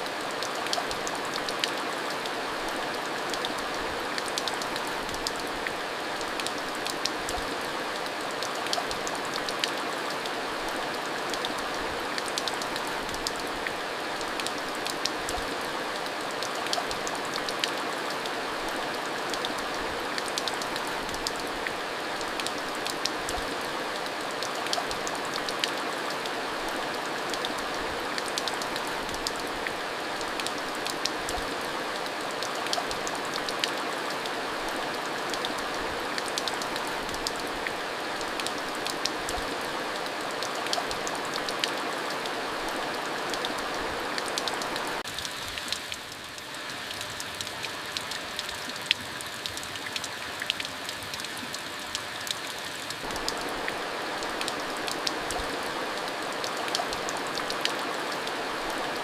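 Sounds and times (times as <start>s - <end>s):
steady rain falling: 0.0s - 59.0s
raindrops ticking close by: 0.1s - 59.0s.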